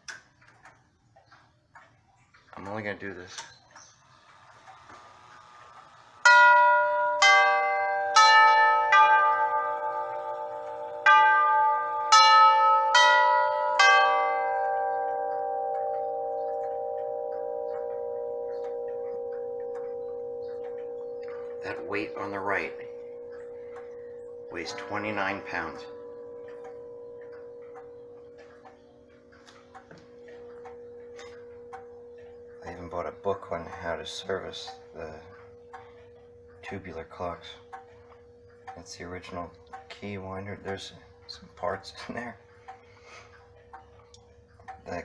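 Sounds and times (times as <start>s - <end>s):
clock tubular chimes: 4.2s - 45.0s.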